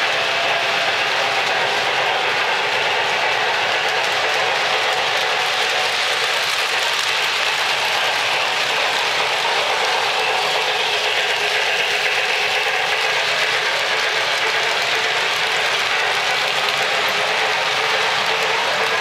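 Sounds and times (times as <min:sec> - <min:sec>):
model train wheels clattering: 0:00.0 - 0:19.0.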